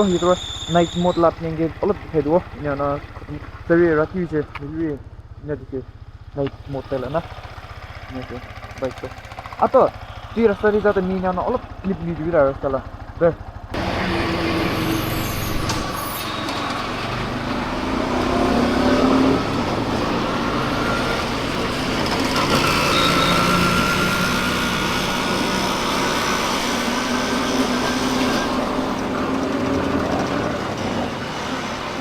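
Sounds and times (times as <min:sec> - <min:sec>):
motorcycle engine: 0:00.0 - 0:32.0
wind and road noise: 0:00.0 - 0:32.0.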